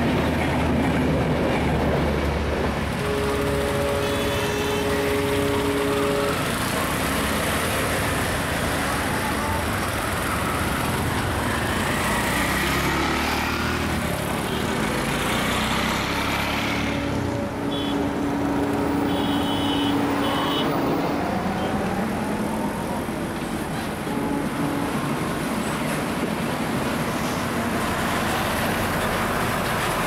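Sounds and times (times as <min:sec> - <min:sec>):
auto-rickshaw engines passing: 0:00.0 - 0:30.0
truck approaching: 0:00.0 - 0:30.0.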